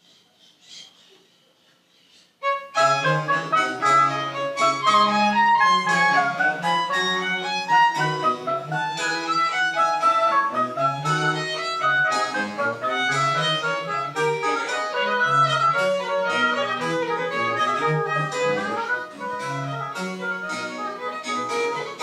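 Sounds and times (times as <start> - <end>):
violin melody: 2.4 - 22.0.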